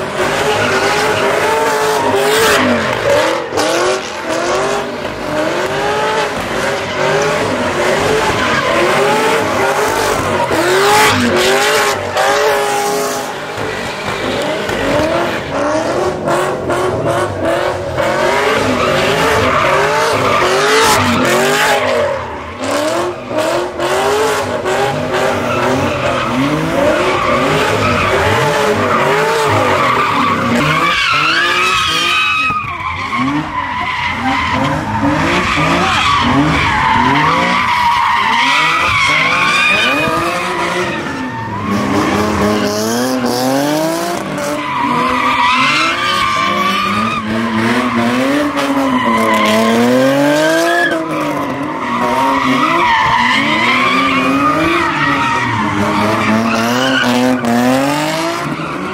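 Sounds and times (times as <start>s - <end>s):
car engines revving: 0.0s - 58.9s
tires screeching: 0.0s - 58.9s.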